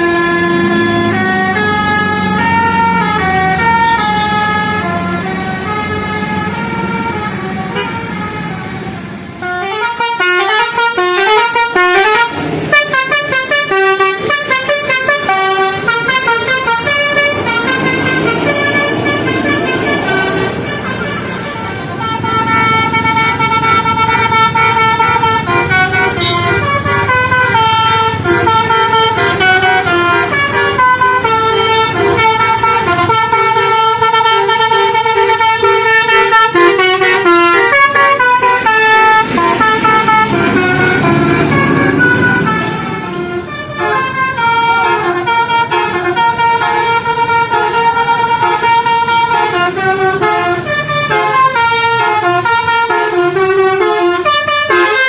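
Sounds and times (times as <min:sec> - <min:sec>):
bus engine running: 0:00.0 - 0:55.0
musical bus horn melody: 0:00.0 - 0:55.0.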